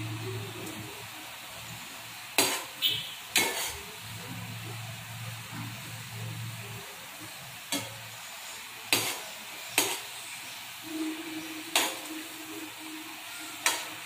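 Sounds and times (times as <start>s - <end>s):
syrup boiling in metal pan: 0.0s - 14.0s.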